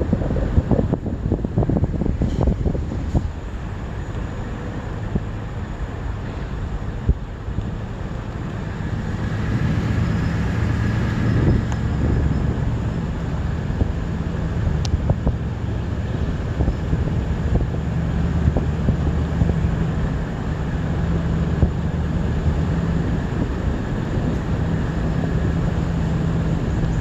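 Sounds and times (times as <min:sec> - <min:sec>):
engine rumble: 0:00.0 - 0:27.0
wind noise on microphone: 0:00.0 - 0:27.0.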